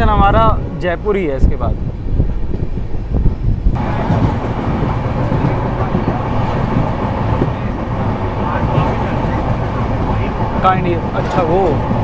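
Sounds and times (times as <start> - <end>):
train wheels rumbling on rails: 0.0 - 12.0
wind and track noise: 0.0 - 12.0.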